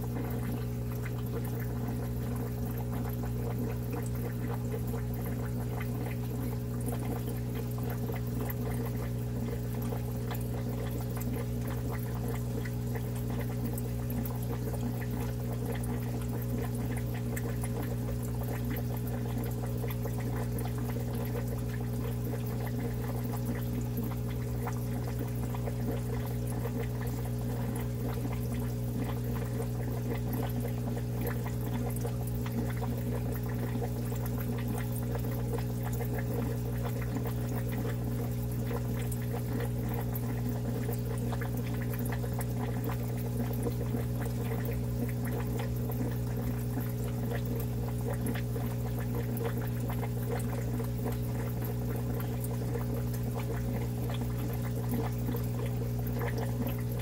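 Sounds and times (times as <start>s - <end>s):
aquarium equipment humming: 0.0s - 57.0s
water pouring and trickling: 0.0s - 57.0s.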